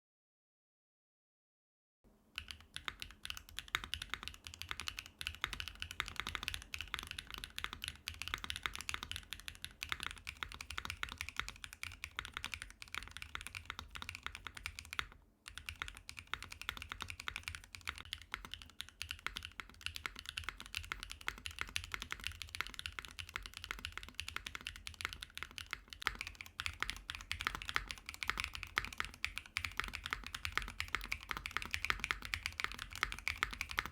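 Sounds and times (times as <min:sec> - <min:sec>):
fast mechanical keyboard typing: 0:02.4 - 0:33.9.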